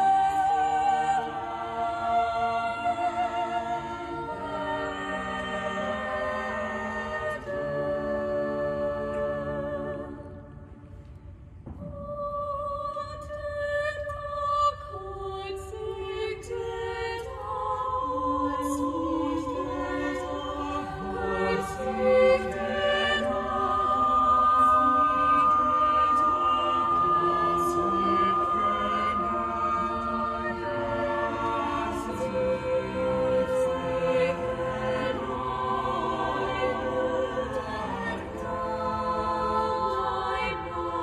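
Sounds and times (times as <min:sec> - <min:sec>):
choir singing a cappella: 0:00.0 - 0:11.0, 0:11.7 - 0:41.0.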